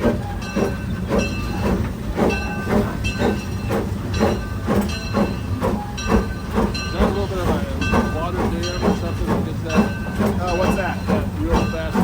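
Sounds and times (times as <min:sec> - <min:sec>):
steam locomotive rumbling: 0:00.0 - 0:12.0.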